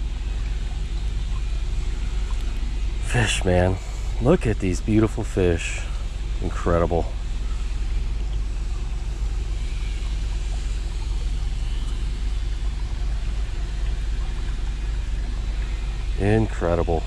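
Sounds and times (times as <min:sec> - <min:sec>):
creek water running: 0:00.0 - 0:17.0.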